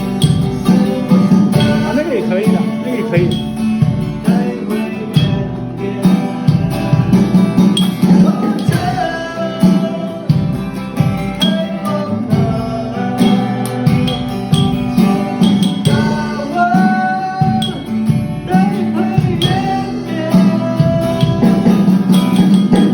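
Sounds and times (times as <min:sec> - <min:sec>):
person singing: 0:00.0 - 0:03.6, 0:04.2 - 0:22.9
guitar: 0:00.0 - 0:22.9
steady beat: 0:00.0 - 0:22.9.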